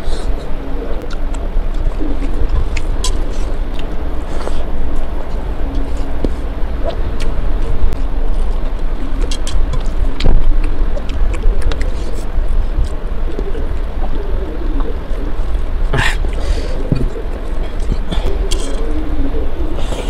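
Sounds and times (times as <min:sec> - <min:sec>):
low rumble: 0:00.0 - 0:20.0
chewing squelches: 0:01.0 - 0:20.0.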